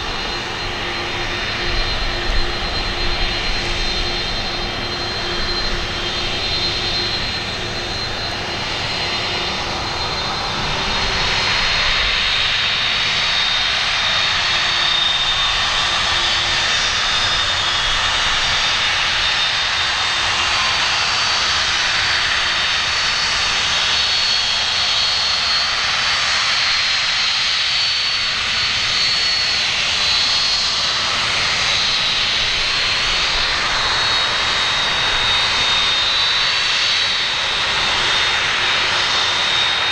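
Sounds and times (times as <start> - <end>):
jet engines rushing with fan whine: 0.0 - 39.9.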